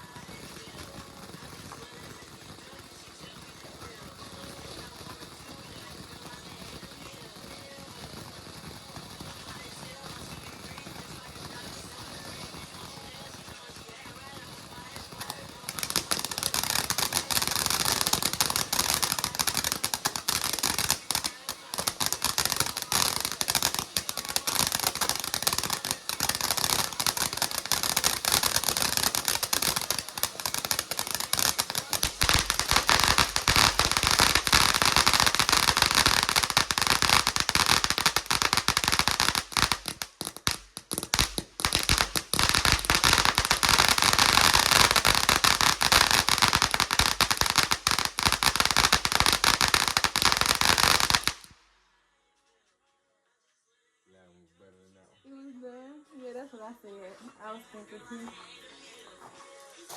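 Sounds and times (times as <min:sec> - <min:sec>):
firecrackers crackling: 0:00.0 - 0:51.8.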